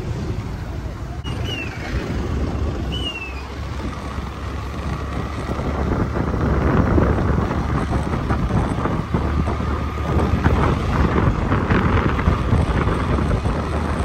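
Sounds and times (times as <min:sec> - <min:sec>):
motorcycle engine and road rumble: 0:00.0 - 0:14.0
wind buffeting microphone: 0:01.2 - 0:14.0.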